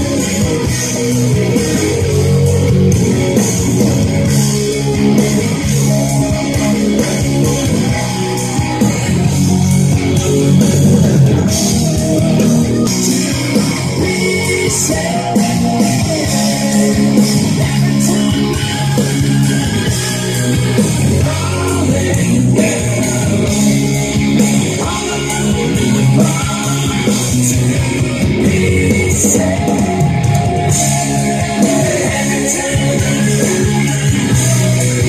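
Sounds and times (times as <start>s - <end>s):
song with guitar and singing: 0.0s - 35.0s.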